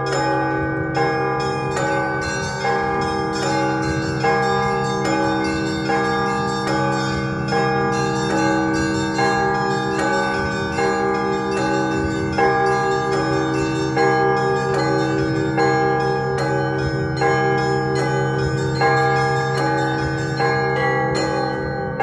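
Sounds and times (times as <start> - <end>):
large bells striking: 0.0 - 22.0
low hum of big bells: 0.0 - 22.0
small bells pattering: 0.0 - 22.0.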